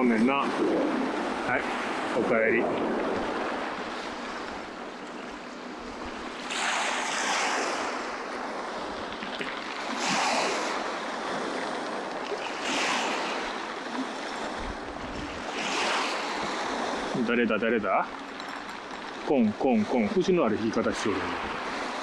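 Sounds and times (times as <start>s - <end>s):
small waves on a pebble beach: 0.0s - 22.0s.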